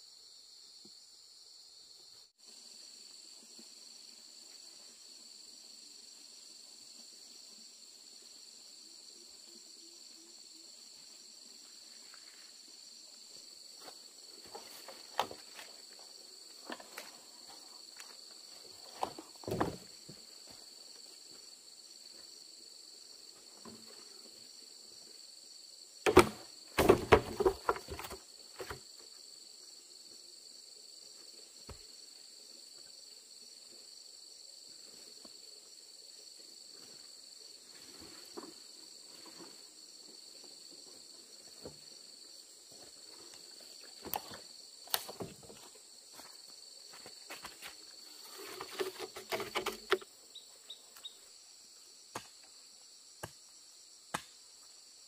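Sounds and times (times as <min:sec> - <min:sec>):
crickets chirping chorus: 0:00.0 - 0:55.0.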